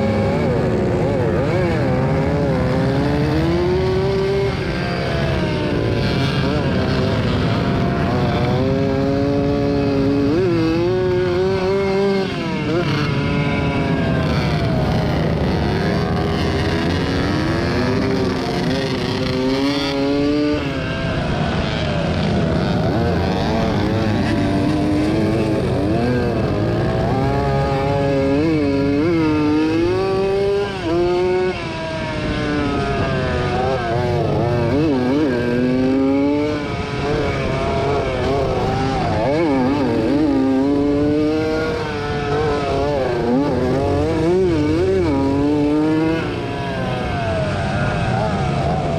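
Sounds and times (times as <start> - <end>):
two-stroke motocross bike revving: 0.0 - 48.9.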